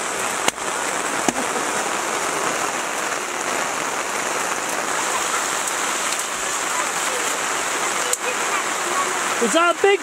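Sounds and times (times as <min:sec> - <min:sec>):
heavy rain drumming on a tarp: 0:00.0 - 0:10.0.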